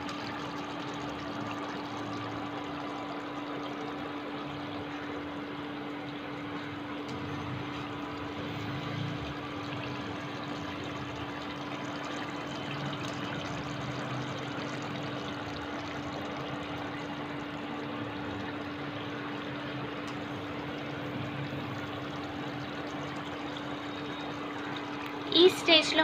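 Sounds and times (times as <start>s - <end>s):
curry bubbling in oil: 0.0s - 26.0s.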